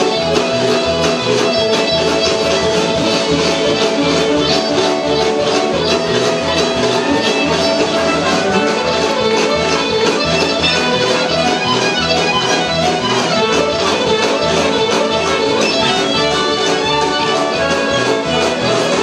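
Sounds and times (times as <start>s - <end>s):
band playing: 0.0s - 19.0s
fiddle playing country tune: 0.0s - 19.0s.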